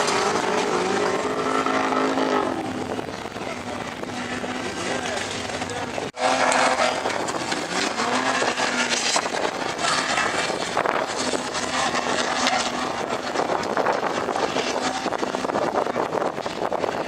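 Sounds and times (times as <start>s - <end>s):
engine revving hard: 0.0s - 15.9s.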